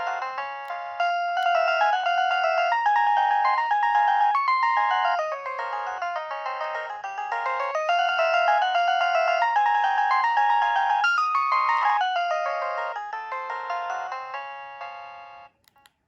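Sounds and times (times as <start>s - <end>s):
polyphonic phone ringtone: 0.0s - 15.6s.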